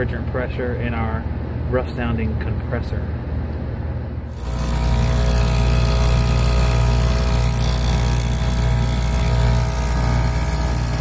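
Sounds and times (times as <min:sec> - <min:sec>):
compressor humming with whine: 0:00.0 - 0:11.0.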